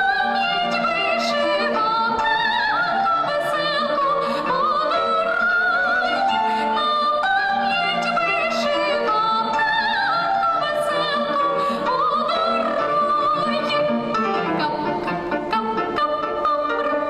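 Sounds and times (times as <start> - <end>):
classical music performance: 0.0 - 17.0.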